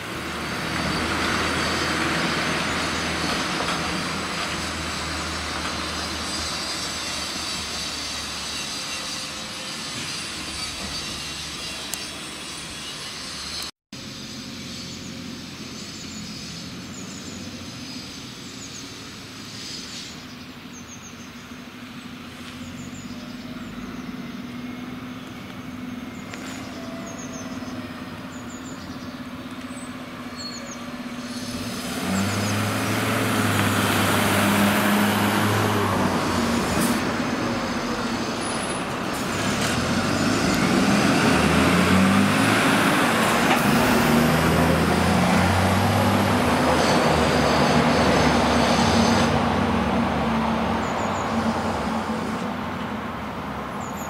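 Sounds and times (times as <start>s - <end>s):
fire engines driving past: 0.0s - 54.0s.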